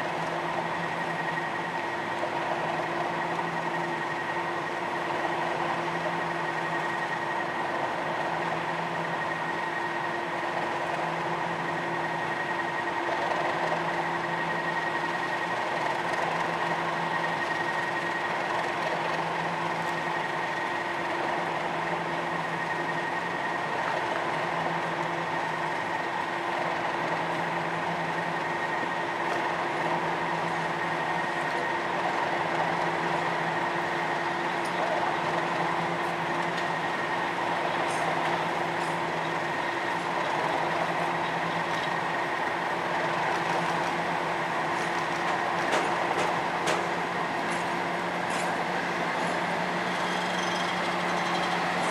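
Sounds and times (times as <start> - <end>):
diesel locomotive engines idling: 0.0 - 51.9.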